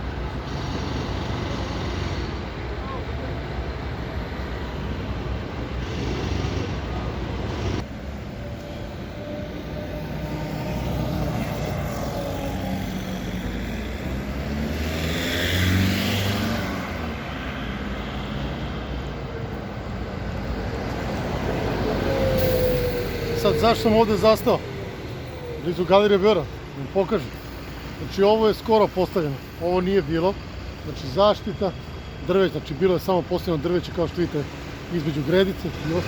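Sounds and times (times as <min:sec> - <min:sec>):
cars driving past: 0:00.0 - 0:36.0.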